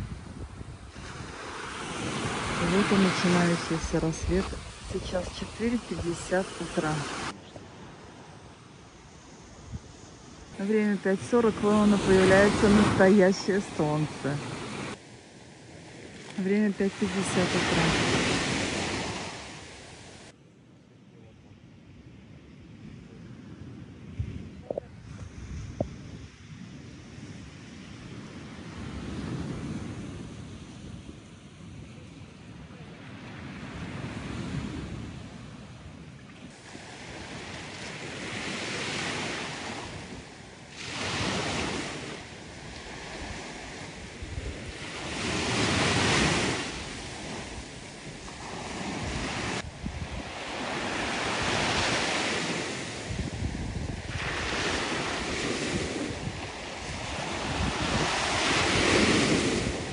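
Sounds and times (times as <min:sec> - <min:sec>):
wind rumbling on microphone: 0:00.0 - 0:20.3, 0:21.7 - 0:59.9
waves washing onto sandy beach: 0:00.0 - 0:20.4, 0:22.0 - 0:59.9.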